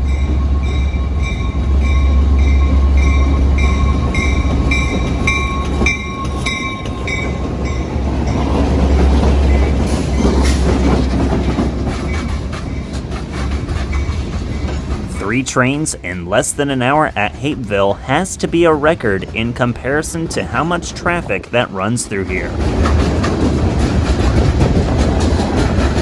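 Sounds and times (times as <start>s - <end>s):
locomotive bell ringing: 0.0s - 23.2s
diesel locomotive engine rumble: 0.0s - 26.0s
railcar wheels rolling on track: 0.0s - 26.0s.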